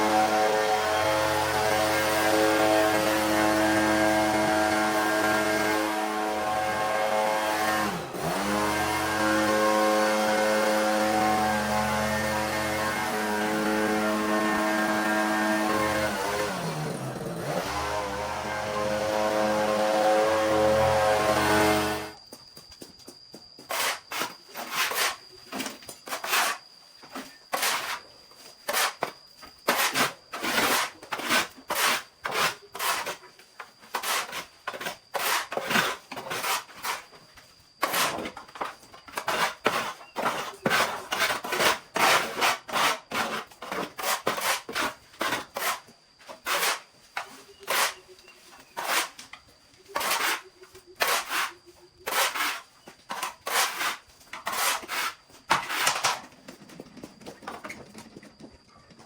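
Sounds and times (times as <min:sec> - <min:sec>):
hand saw cutting wood: 0:00.0 - 0:22.2, 0:23.7 - 0:25.2, 0:26.1 - 0:26.6, 0:27.5 - 0:28.0, 0:28.7 - 0:29.1, 0:29.7 - 0:33.2, 0:33.9 - 0:37.1, 0:37.8 - 0:48.0, 0:48.6 - 0:49.3, 0:50.0 - 0:56.2.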